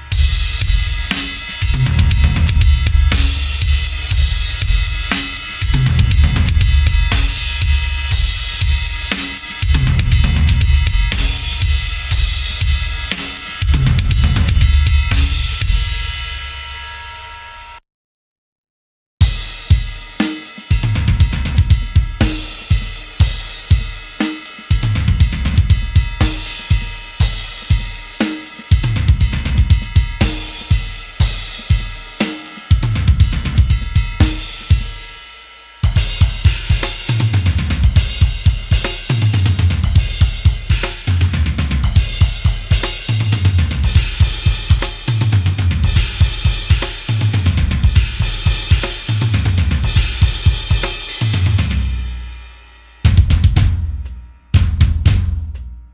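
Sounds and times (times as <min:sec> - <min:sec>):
drum kit groove: 0:00.0 - 0:16.9, 0:19.2 - 0:52.4, 0:53.0 - 0:55.9.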